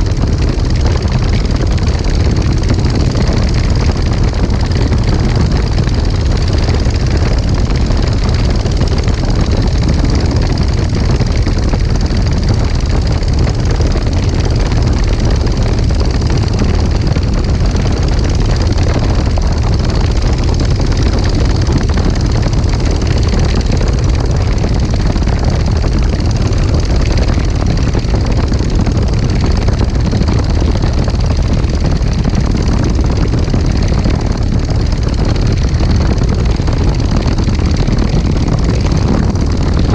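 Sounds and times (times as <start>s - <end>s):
ultralight engine and propeller: 0.0s - 39.9s
wind noise: 0.0s - 39.9s.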